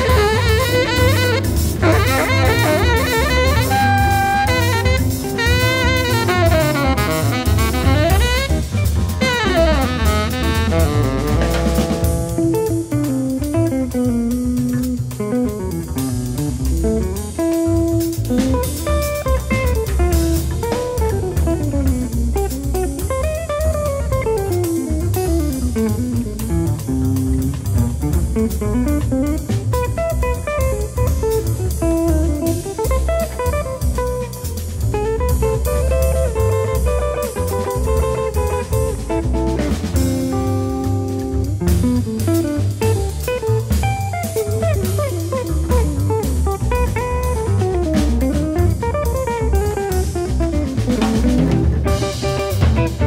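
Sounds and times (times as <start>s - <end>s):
drum kit: 0.0s - 53.0s
jazz guitar solo: 0.0s - 53.0s
walking bass: 0.0s - 53.0s.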